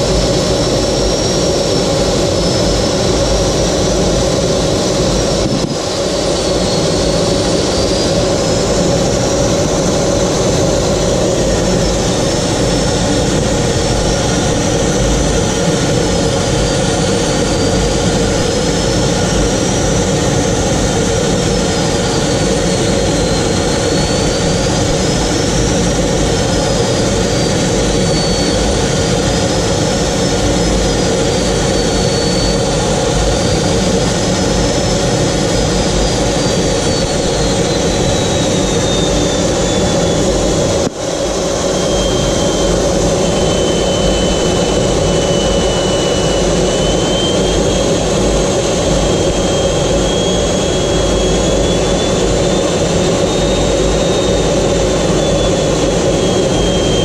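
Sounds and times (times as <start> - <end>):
jet engine roar with whine: 0.0 - 57.0.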